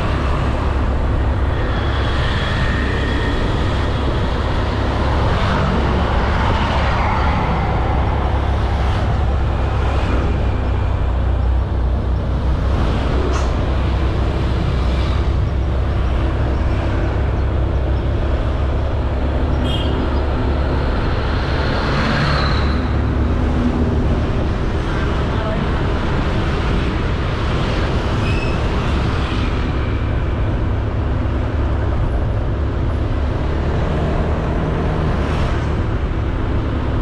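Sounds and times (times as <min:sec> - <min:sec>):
road noise: 0:00.0 - 0:37.0
wind rumble on microphone: 0:00.0 - 0:37.0.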